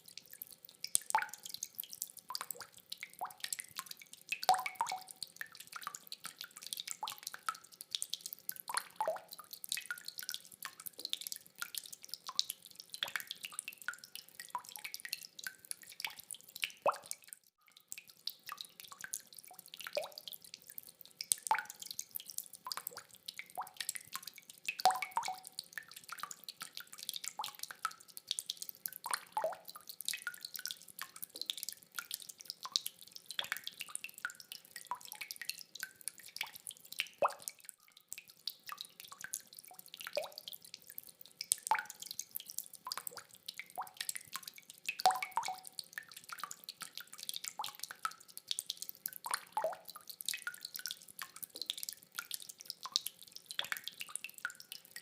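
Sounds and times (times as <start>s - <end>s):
rainwater dripping: 0.0s - 55.0s.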